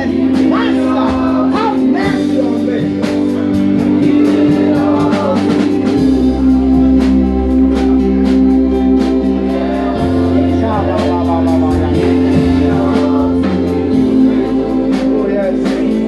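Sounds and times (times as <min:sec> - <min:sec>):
bass: 0:00.0 - 0:16.0
drum beat: 0:00.0 - 0:16.0
guitar: 0:00.0 - 0:16.0
keyboard chords: 0:00.0 - 0:16.0
singing: 0:00.0 - 0:16.0.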